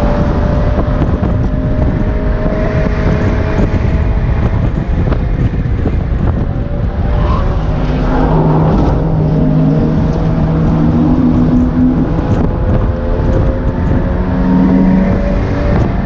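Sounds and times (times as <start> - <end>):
car engine accelerating: 0.0 - 16.0
wind rushing: 1.2 - 14.4.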